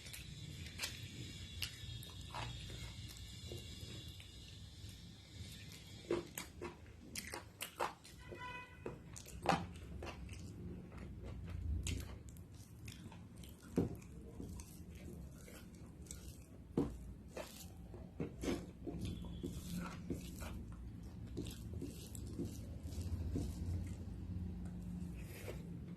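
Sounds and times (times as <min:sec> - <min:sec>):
chewing and biting: 0:00.0 - 0:04.5, 0:05.4 - 0:08.2, 0:09.1 - 0:25.5.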